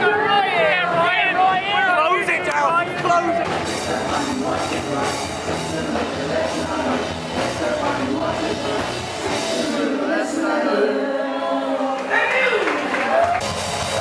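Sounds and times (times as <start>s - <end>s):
rock music with singing: 0.0s - 12.5s.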